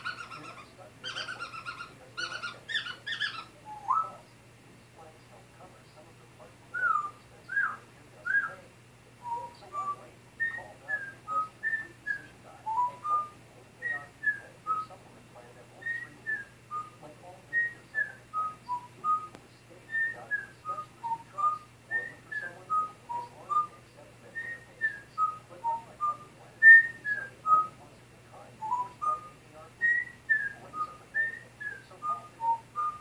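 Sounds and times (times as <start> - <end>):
parrot whistling a tune: 0.0 - 4.2, 6.8 - 8.6, 9.2 - 14.9, 15.8 - 27.8, 28.6 - 33.0.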